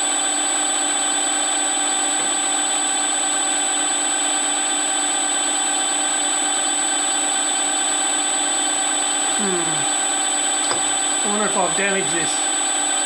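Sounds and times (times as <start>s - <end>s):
milling machine spindle whine: 0.0s - 13.0s.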